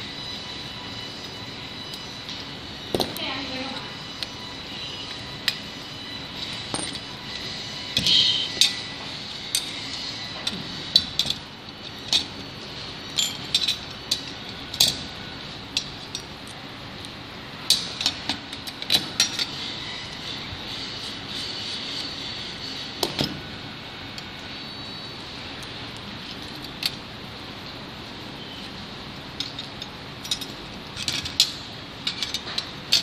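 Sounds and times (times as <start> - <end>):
steady background hum: 0.0 - 33.0
metal parts clicking and clinking: 1.2 - 23.5, 25.5 - 27.1, 28.6 - 33.0.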